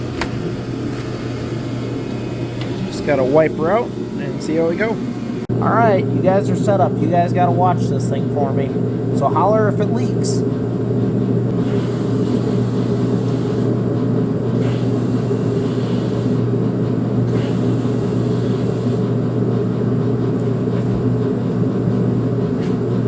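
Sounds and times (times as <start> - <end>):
electric fuel pump humming: 0.0 - 23.0.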